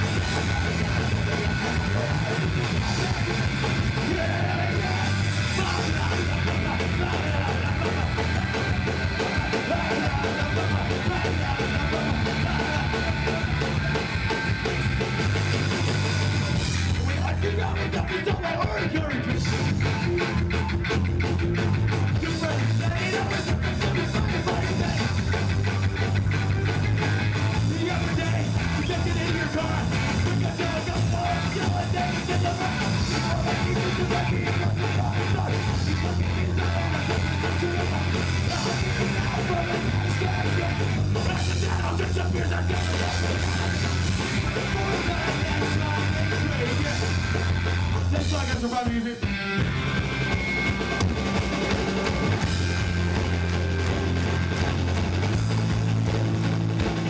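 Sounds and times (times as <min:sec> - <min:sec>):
live punk rock band: 0:00.0 - 0:57.0.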